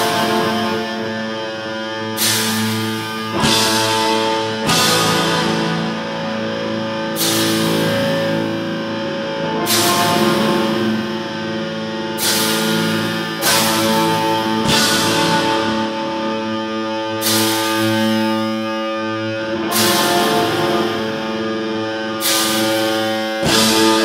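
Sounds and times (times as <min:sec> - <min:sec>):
distorted electric guitars: 0:00.0 - 0:24.0
cymbal crashes: 0:02.0 - 0:11.5, 0:12.1 - 0:18.8, 0:19.7 - 0:24.0.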